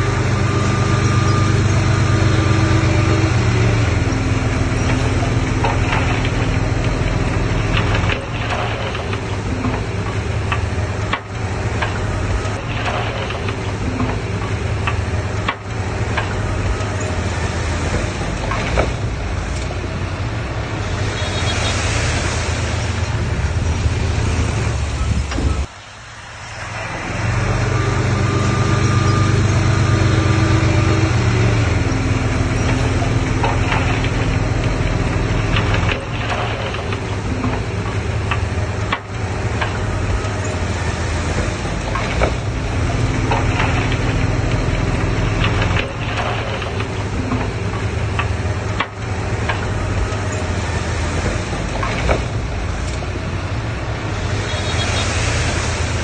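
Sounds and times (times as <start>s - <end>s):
metallic clanks: 0.0s - 20.2s, 28.2s - 53.2s
heavy diesel engines running: 0.0s - 56.0s.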